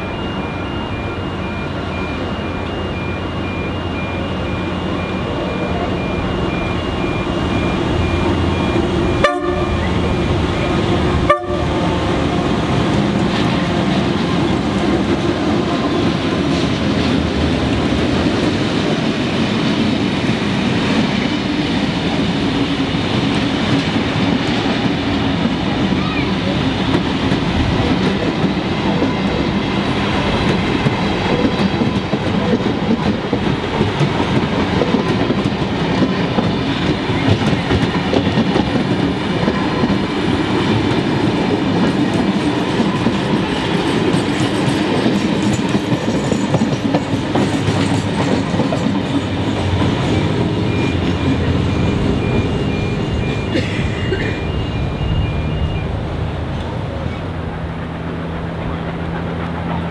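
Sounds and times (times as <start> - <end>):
diesel locomotive engine rumble: 0.0 - 59.9
train wheels clattering on rails: 5.2 - 59.9.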